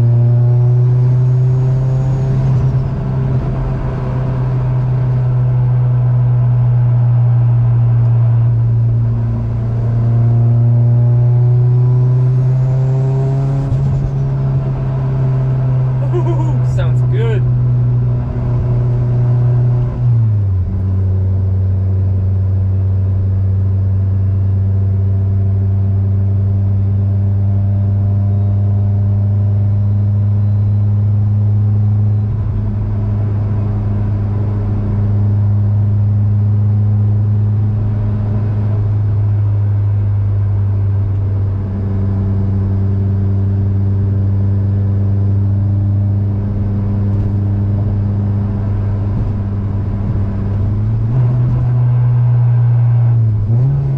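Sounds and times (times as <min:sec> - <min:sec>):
car engine droning: 0:00.0 - 0:53.9.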